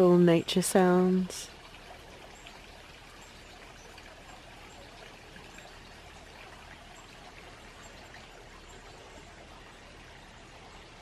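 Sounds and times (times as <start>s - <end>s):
brook babbling: 0.0s - 11.0s.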